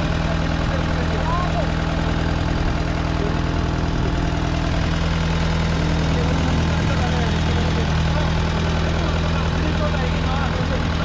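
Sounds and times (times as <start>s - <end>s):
engine humming steadily: 0.0s - 11.0s
faint voices: 0.0s - 11.0s.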